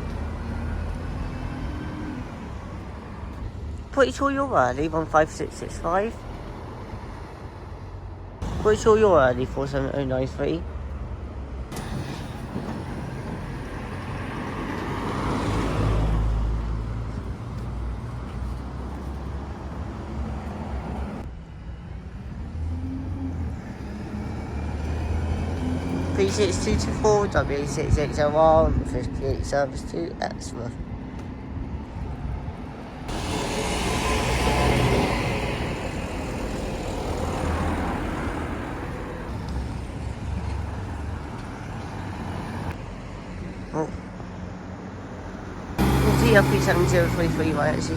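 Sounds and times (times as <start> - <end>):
bus diesel engine rumbling: 0.0 - 42.8, 43.5 - 47.9.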